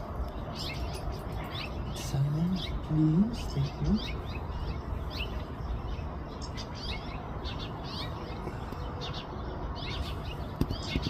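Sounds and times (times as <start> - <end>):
low outdoor rumble: 0.0 - 11.0
small songbirds chirping: 0.0 - 11.0.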